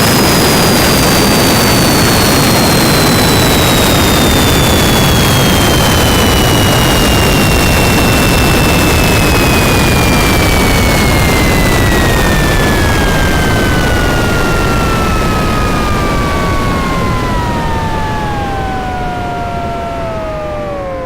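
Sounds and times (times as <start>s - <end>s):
jet engine roaring and whining: 0.0s - 21.0s.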